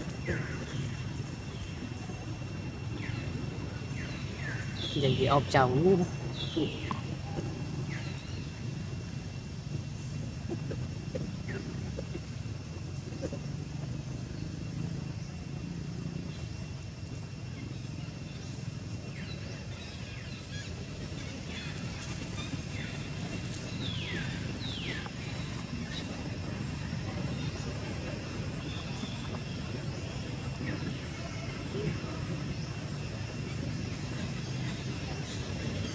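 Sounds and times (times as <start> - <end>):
steady low rumble: 0.0 - 15.8, 20.3 - 35.9.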